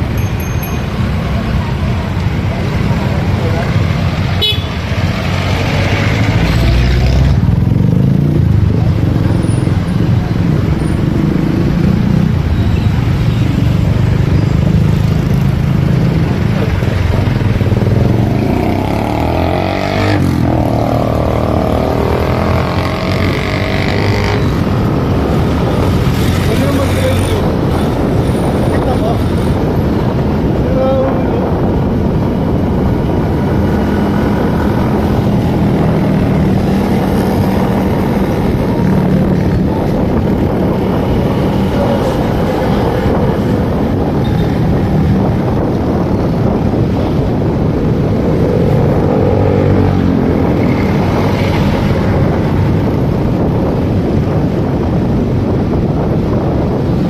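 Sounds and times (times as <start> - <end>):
motorcycle engine: 0.0 - 30.5, 31.5 - 54.5
road noise: 0.0 - 57.0.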